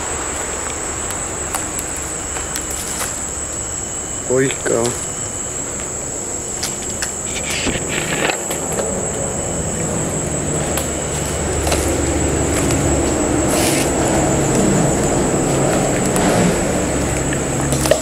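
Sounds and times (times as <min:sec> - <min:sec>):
car engine approaching: 0:00.0 - 0:18.0
crickets chirring: 0:00.0 - 0:18.0.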